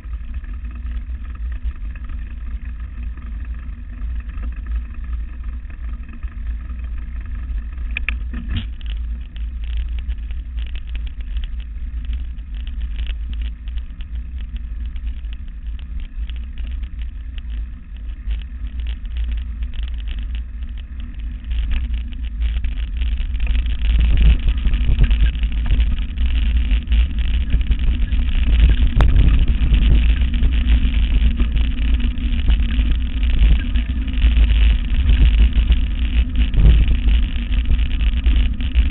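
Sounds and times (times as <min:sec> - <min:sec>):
bike rattles and clicks: 0:00.0 - 0:38.9
wind and ride rumble: 0:00.0 - 0:38.9.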